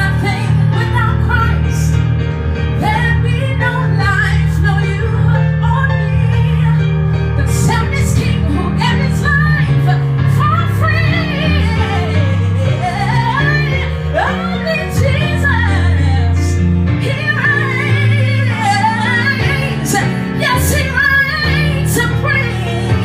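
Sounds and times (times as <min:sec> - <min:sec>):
live gospel band music: 0:00.0 - 0:23.0.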